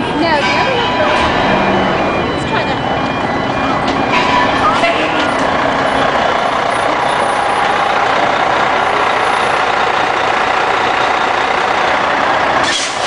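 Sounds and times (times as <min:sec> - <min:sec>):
heavy vehicle engine idling: 0:00.0 - 0:13.0.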